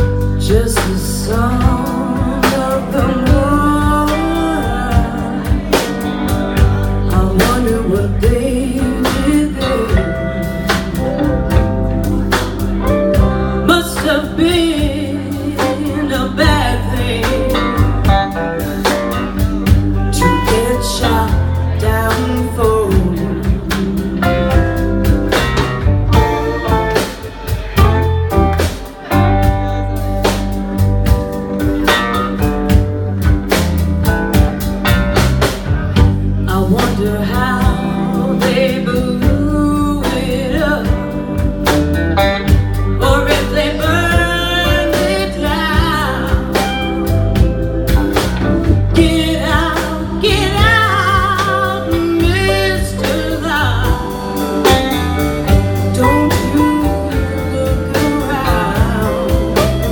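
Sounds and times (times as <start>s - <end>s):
drum kit: 0.0s - 59.9s
electric bass: 0.0s - 59.9s
guitar: 0.0s - 59.9s
woman singing lead: 0.0s - 59.9s.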